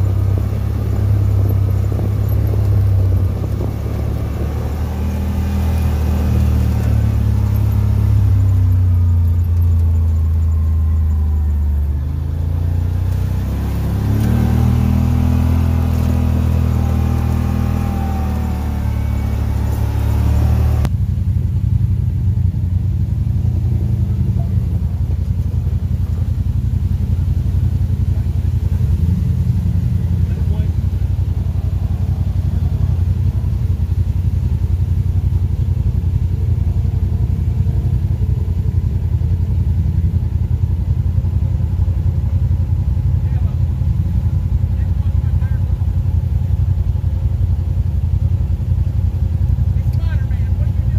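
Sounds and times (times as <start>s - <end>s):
road rumble: 0.0s - 50.9s
utv engine running: 0.0s - 50.9s.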